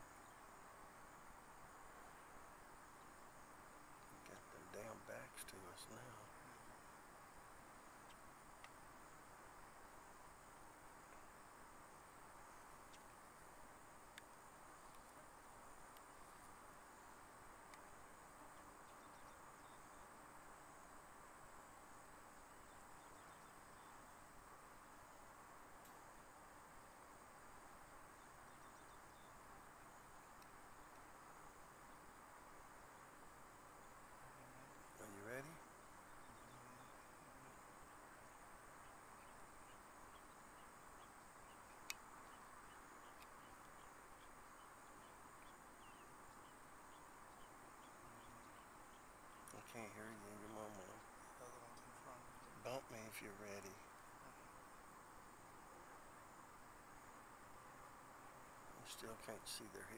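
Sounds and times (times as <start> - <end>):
faint background hiss: 0.0 - 59.9
insects chirping: 0.0 - 59.9.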